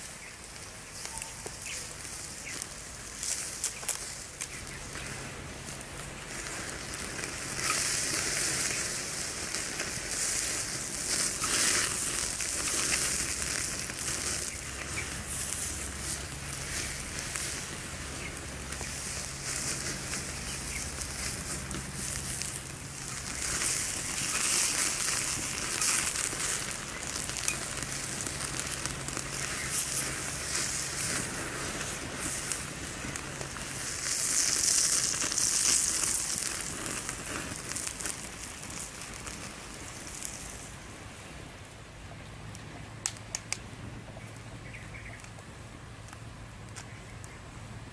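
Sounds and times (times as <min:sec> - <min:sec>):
steak sizzling on a grill: 0:00.0 - 0:40.9
wood fire crackling: 0:00.0 - 0:47.9.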